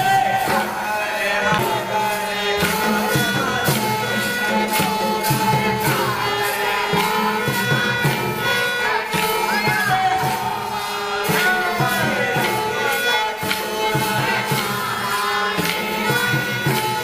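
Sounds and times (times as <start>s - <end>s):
folk singing: 0.0s - 17.0s
percussion steady beat: 0.0s - 17.0s.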